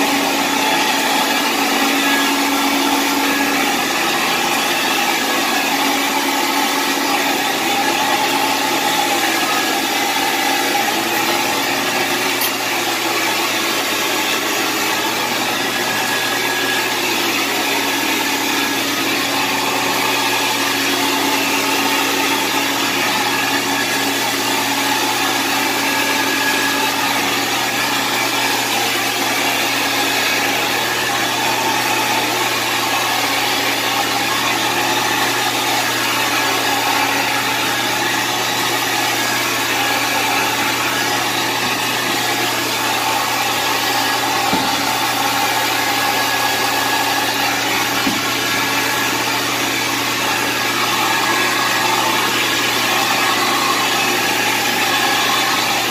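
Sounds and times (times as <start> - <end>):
carpet cleaning machine running: 0.0 - 55.9.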